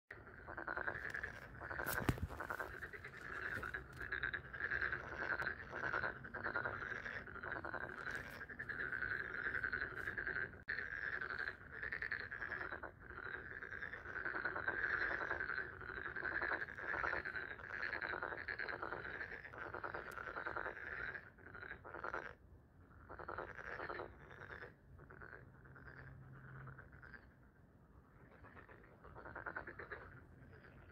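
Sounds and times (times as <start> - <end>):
frogs croaking: 0.1 - 30.9.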